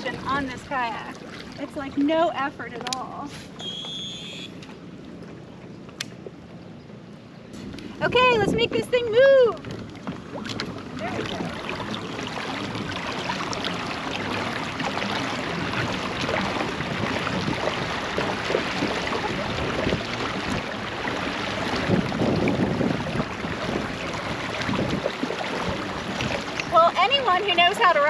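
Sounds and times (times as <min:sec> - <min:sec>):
water churning and splashing: 0:00.0 - 0:28.0.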